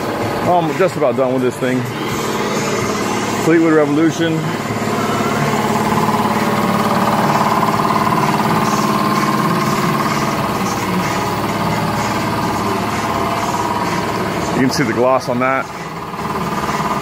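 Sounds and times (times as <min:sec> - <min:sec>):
motor droning hum: 0:00.0 - 0:17.0.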